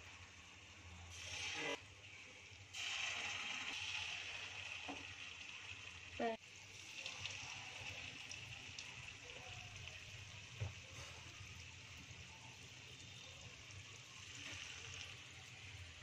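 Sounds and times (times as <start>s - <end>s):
sizzling and bubbling oil: 0.0s - 16.0s.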